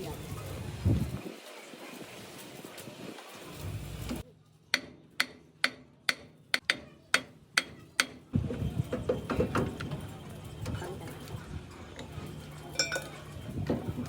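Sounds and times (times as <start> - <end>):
workshop noise: 0.0 - 14.0.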